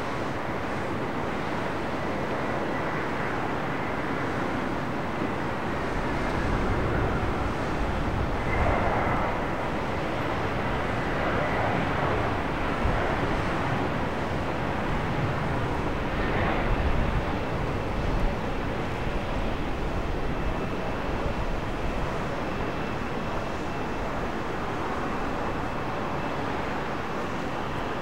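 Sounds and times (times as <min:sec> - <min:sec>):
faint high whine: 0:00.0 - 0:28.0
jet engines running: 0:00.0 - 0:28.0.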